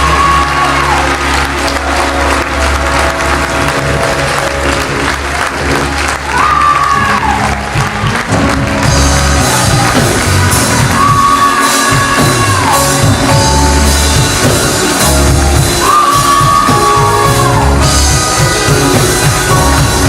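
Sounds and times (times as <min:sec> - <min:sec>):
bass guitar: 0:00.0 - 0:20.0
drums: 0:00.0 - 0:20.0
gospel band playing: 0:00.0 - 0:20.0.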